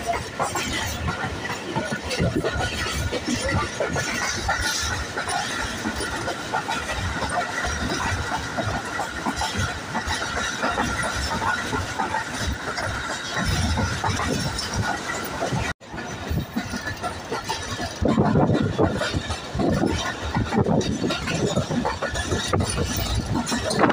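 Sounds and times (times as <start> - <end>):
clacks and knocks from track: 0.0 - 23.9
wheels running on rails: 0.0 - 23.9.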